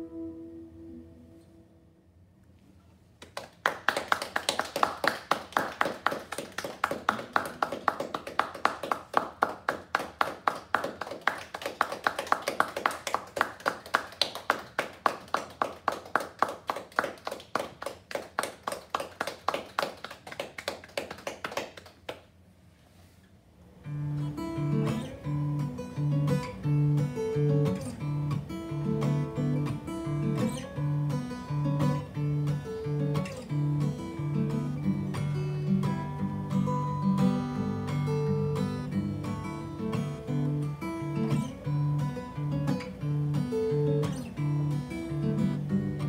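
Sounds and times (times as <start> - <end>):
people clapping: 3.2 - 22.4, 24.8 - 46.0.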